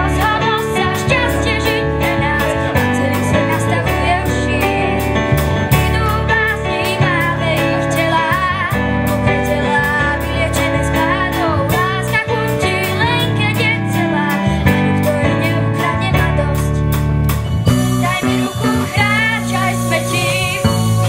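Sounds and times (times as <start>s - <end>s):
girl singing into a microphone: 0.0s - 5.1s, 5.7s - 16.9s, 17.9s - 21.0s
live band playing: 0.0s - 21.0s.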